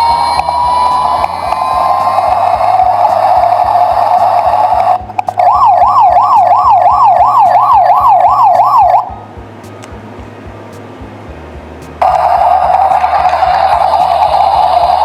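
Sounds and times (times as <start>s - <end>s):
electronic wailing siren: 0.0s - 9.2s, 12.0s - 15.0s
electronic rushing sound: 0.0s - 15.0s.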